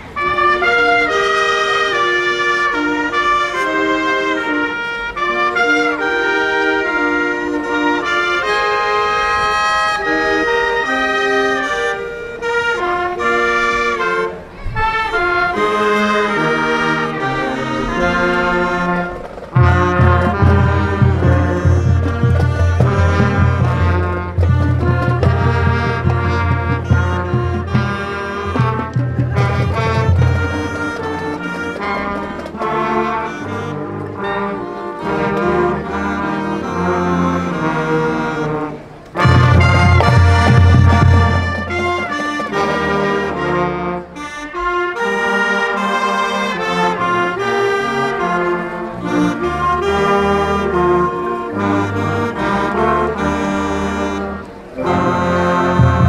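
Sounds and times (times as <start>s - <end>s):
marching band brass playing: 0.0s - 56.0s.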